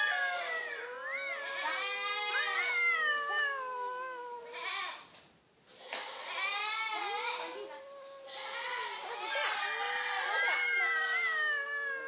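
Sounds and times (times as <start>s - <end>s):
cats yowling: 0.0s - 5.0s, 6.1s - 12.0s.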